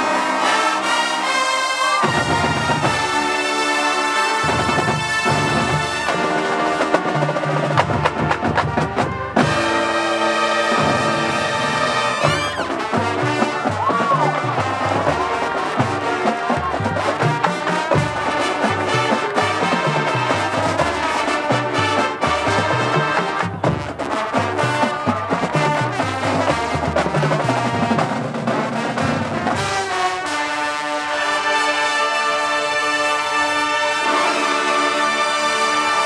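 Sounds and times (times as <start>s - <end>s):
high brass rising glide: 0.0s - 26.8s, 28.8s - 36.0s
marching band playing: 0.0s - 36.0s.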